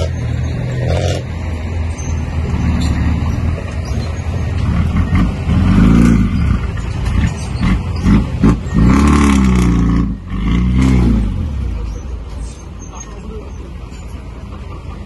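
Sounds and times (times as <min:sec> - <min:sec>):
heavy diesel engine revving: 0:00.0 - 0:12.1.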